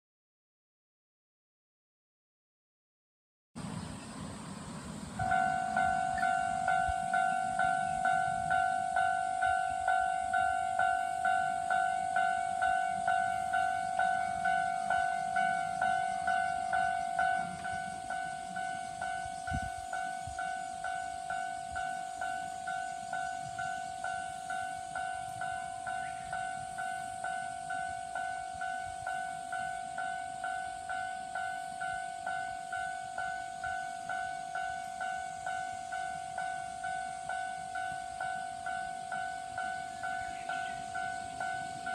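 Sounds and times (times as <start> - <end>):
level-crossing warning bells ringing: 4.8 - 41.9.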